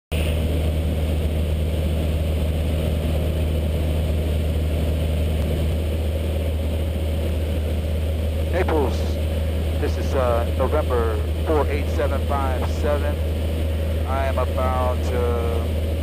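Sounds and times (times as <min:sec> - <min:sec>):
airplane engine and propeller droning: 0:00.1 - 0:16.0.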